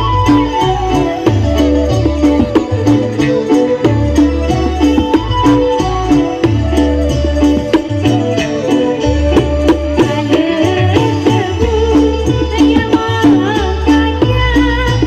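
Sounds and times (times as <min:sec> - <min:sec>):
band playing traditional music: 0:00.0 - 0:15.0.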